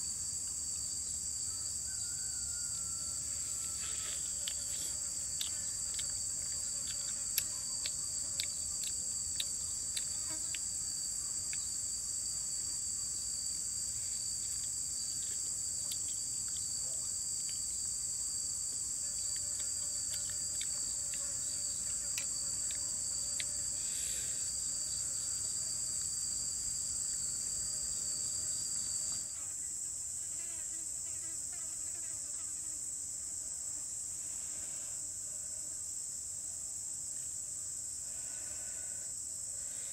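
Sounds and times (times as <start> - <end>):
high-pitched insect drone: 0.0 - 32.9, 38.0 - 39.9.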